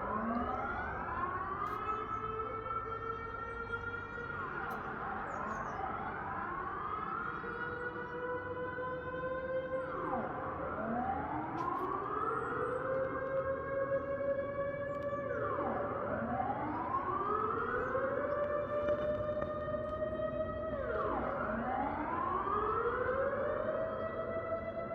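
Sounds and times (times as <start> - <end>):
wailing warning sirens: 0.0 - 24.9.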